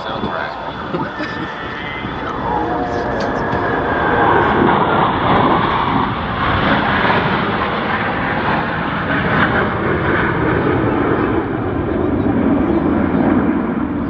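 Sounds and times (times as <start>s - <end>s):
loud jet engine noise: 0.0s - 14.0s.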